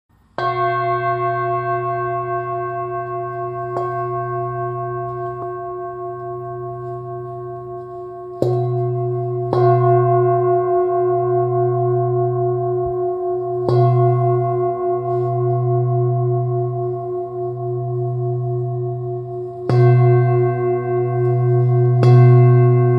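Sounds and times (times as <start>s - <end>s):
singing bowl ringing: 0.4s - 22.9s.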